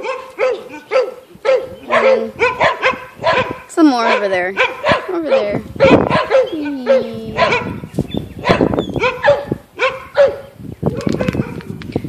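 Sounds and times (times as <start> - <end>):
dog barking: 0.0 - 11.8.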